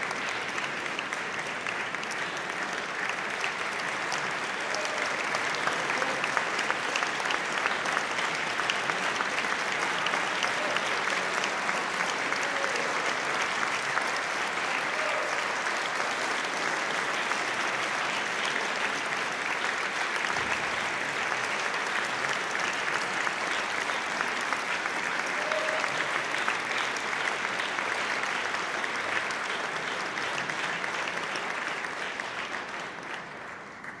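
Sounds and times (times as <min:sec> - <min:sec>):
audience applauding: 0:00.0 - 0:34.0.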